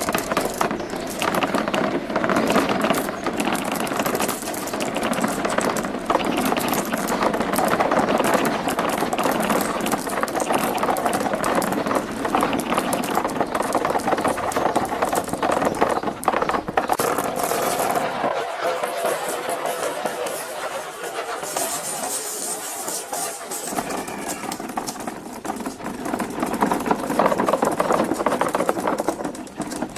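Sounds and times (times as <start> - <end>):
marbles rattling down plastic track: 0.0 - 29.9.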